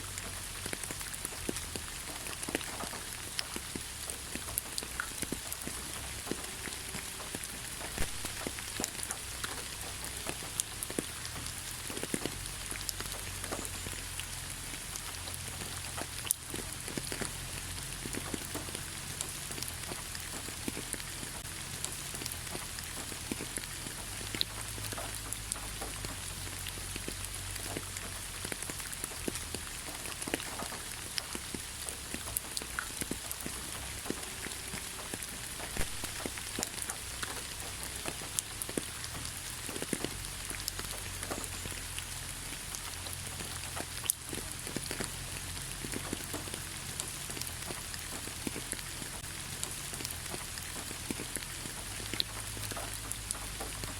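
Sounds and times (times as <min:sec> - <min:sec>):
raindrops ticking: 0:00.0 - 0:53.9
steady rain hiss: 0:00.0 - 0:53.9.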